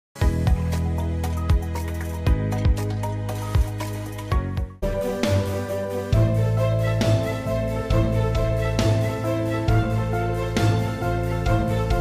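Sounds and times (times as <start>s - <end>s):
background music with a beat: 0.2s - 12.0s.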